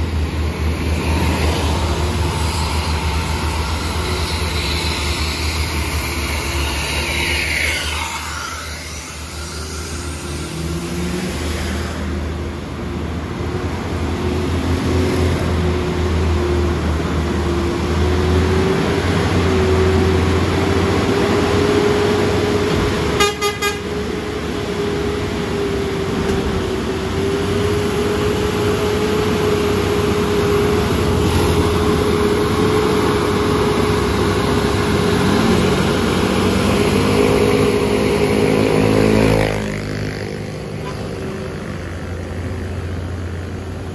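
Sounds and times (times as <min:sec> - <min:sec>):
truck diesel engine labouring: 0:00.0 - 0:43.9.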